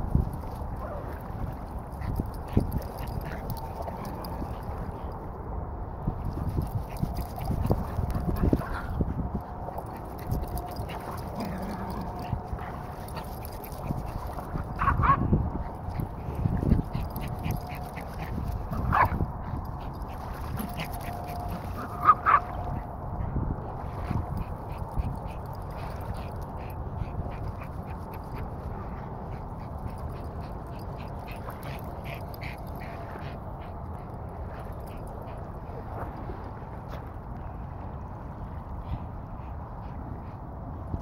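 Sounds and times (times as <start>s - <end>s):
steady background noise: 0.0s - 41.0s.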